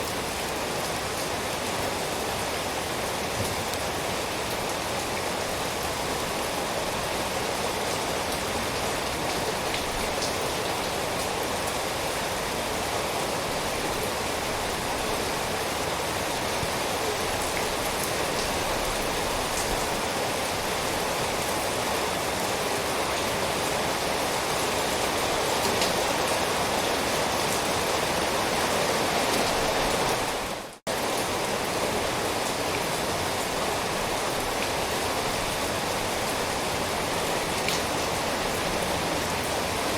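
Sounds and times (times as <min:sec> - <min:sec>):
dense rainfall hissing: 0:00.0 - 0:39.9.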